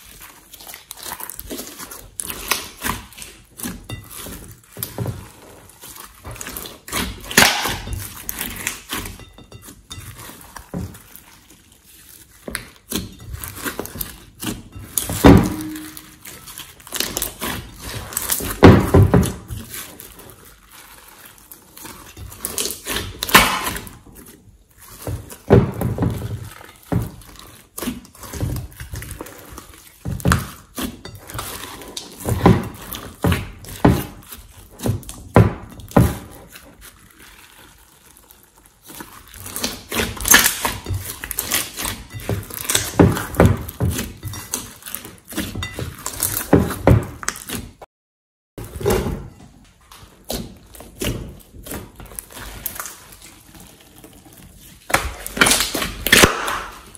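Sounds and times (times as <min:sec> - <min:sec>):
slime squishing by hand: 0:00.0 - 0:47.8, 0:48.6 - 0:56.9.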